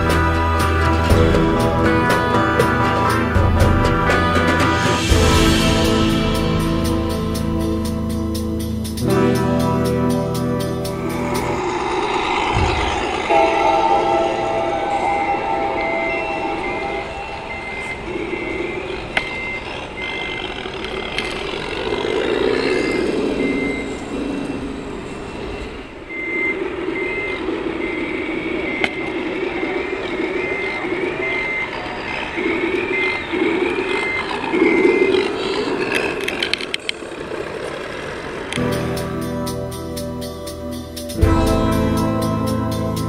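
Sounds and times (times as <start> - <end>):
model truck engine sound: 0.0 - 14.3, 17.4 - 43.0
reversing beeper: 0.0 - 36.9.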